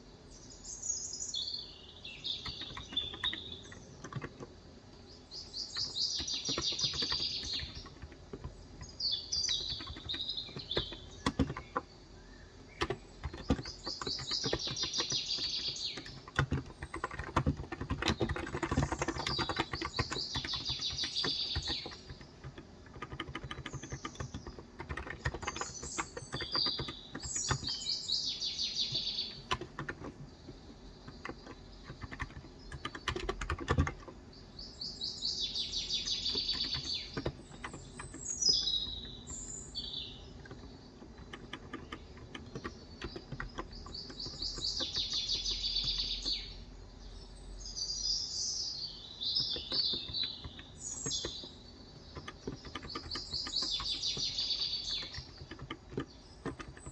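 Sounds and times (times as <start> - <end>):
bird singing: 0.0 - 56.9
typing on keyboard: 2.2 - 4.6, 5.4 - 34.3, 35.4 - 46.5, 49.3 - 56.9.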